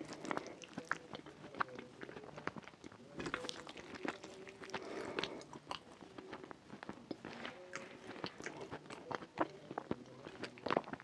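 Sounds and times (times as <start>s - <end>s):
wet chewing and mouth smacks: 0.0s - 11.0s.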